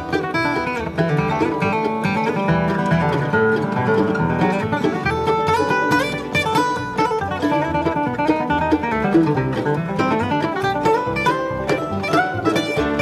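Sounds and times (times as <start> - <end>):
bluegrass string band playing: 0.0 - 13.0.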